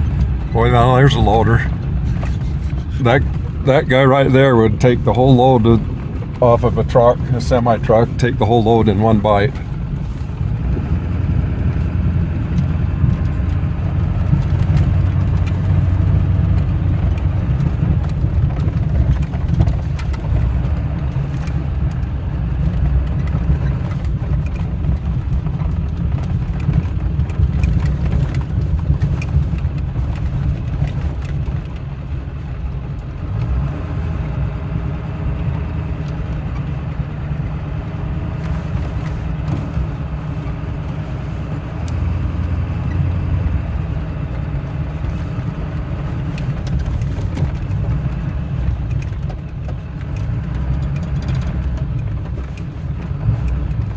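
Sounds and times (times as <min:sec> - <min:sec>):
engine running: 0:00.0 - 0:53.9.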